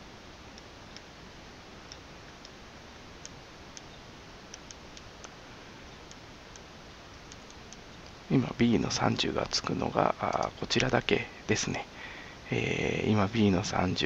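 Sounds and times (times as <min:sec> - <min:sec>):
low hiss: 0:00.0 - 0:14.0.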